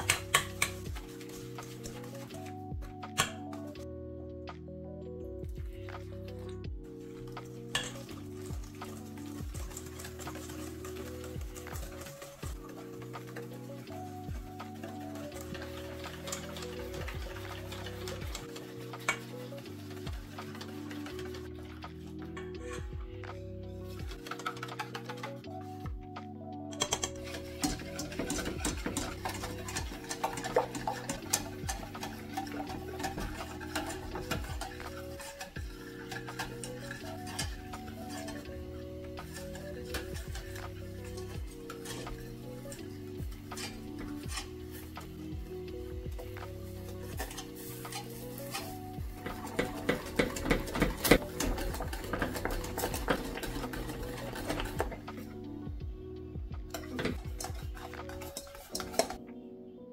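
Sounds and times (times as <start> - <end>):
whisk scraping a metal saucepan: 0.0 - 3.4, 6.9 - 22.9, 23.8 - 25.8, 26.8 - 55.5, 56.7 - 59.2
soft background music: 0.0 - 59.9.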